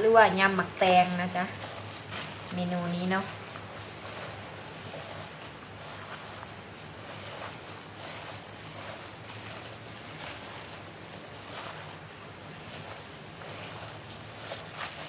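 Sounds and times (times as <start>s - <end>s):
salad greens rustling in plastic bowl: 0.0s - 15.0s
steady hiss and low hum: 0.0s - 15.0s.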